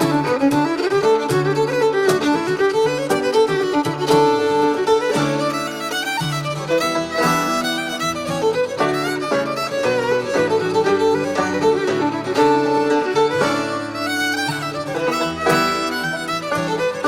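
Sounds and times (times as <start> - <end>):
fiddle melody: 0.0 - 17.0
guitar accompaniment: 0.0 - 17.0.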